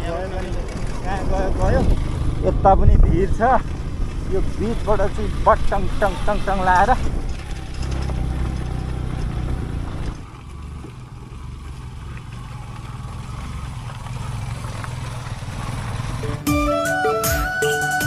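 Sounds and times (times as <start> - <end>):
vehicle engine rumbling: 0.0 - 16.5.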